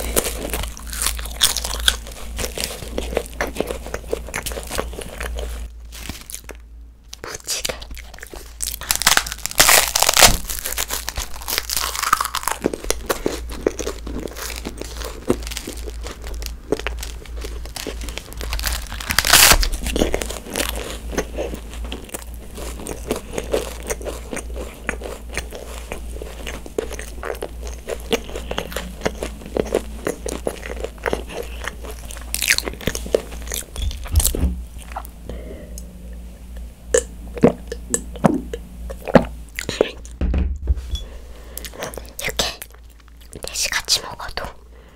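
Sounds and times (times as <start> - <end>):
crisp crunching while chewing: 0.0 - 35.7, 36.9 - 40.2, 41.4 - 44.5.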